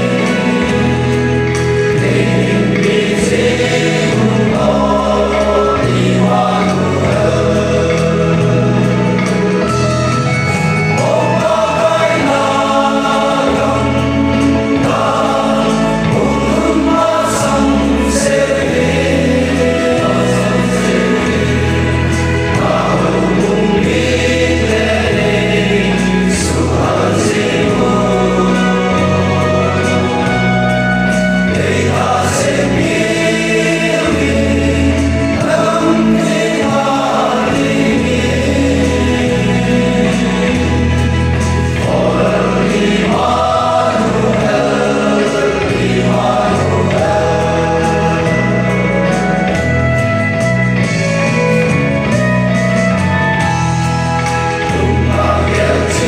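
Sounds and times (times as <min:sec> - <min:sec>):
male choir singing gospel harmony: 0:00.0 - 0:56.0.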